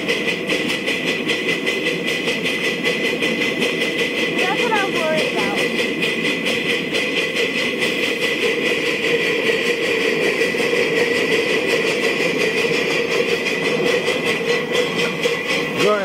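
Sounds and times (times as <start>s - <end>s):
steam locomotive running: 0.0s - 16.0s.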